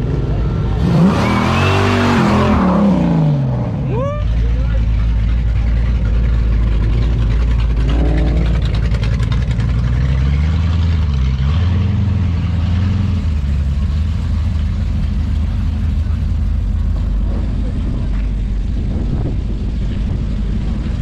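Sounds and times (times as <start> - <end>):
car engine driving off: 0.0 - 21.0.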